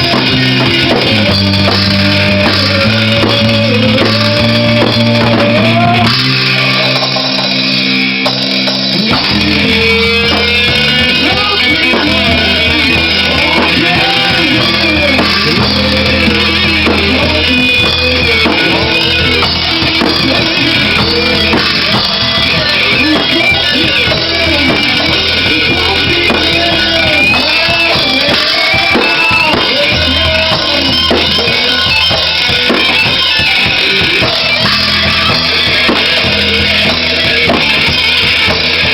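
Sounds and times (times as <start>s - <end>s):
bending guitar melody: 0.0s - 38.9s
rock band playing live: 0.0s - 38.9s.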